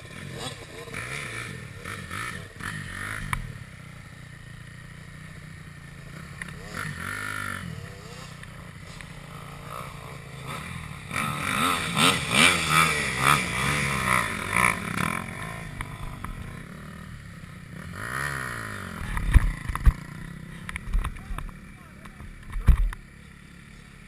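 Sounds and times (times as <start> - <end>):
motocross engine revving: 0.0 - 24.0.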